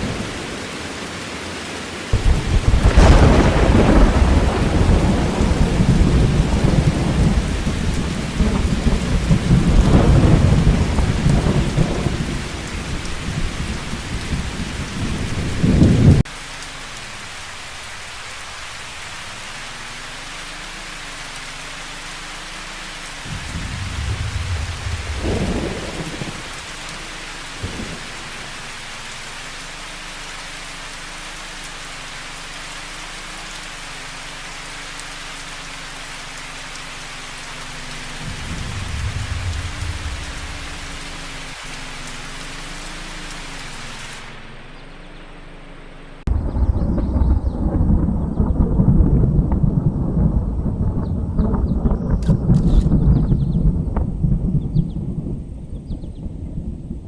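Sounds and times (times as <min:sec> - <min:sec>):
storm rain pouring: 0:00.0 - 0:57.0
deep rumbling: 0:02.1 - 0:16.3, 0:17.3 - 0:31.4, 0:37.1 - 0:57.0.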